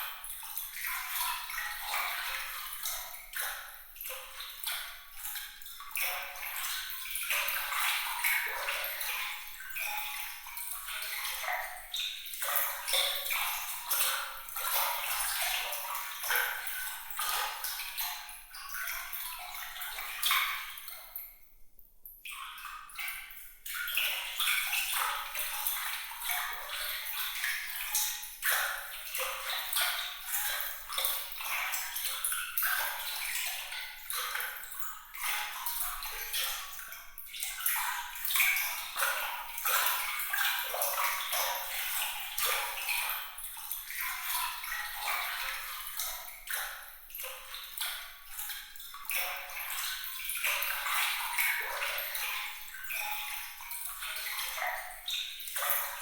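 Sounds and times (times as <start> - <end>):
water drips and plinks: 0.0 - 56.0
water trickling and splashing: 0.0 - 56.0.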